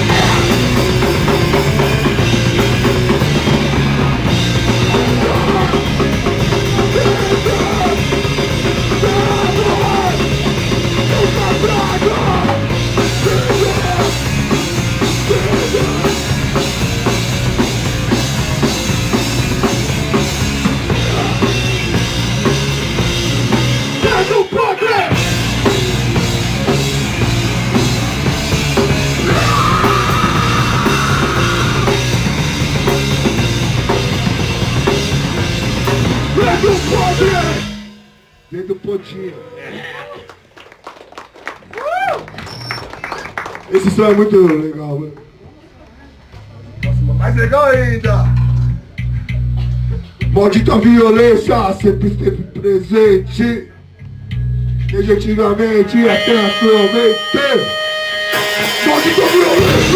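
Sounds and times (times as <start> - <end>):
punk band playing live: 0.0 - 38.5, 46.4 - 59.9.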